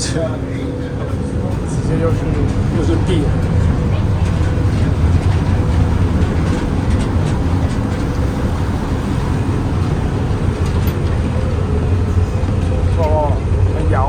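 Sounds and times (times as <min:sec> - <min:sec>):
ferry engines rumbling: 0:00.0 - 0:14.0.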